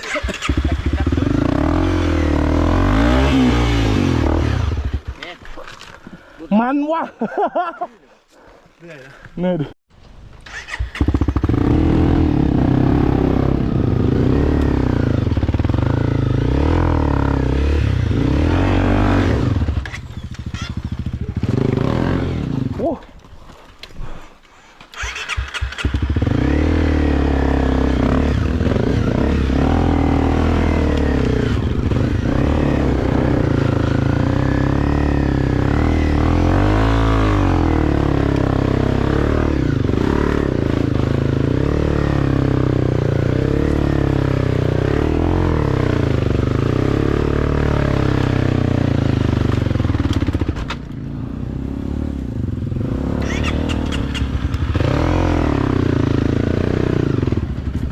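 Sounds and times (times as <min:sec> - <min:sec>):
off-road motorcycle engine revving: 0:00.0 - 0:05.9, 0:10.4 - 0:23.0, 0:24.9 - 0:57.9.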